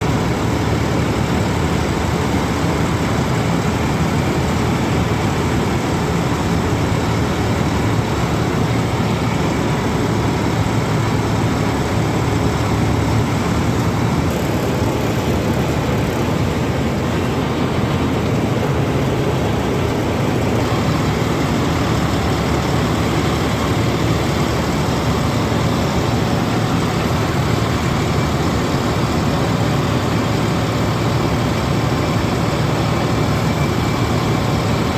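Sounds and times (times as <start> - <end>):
combine harvester diesel engine: 0.0 - 34.9.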